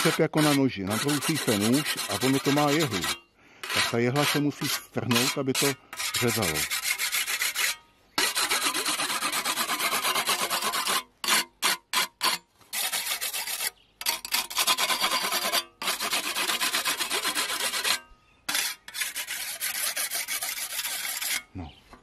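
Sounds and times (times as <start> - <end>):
whetstone rasping on scythe blade: 0.0 - 21.5.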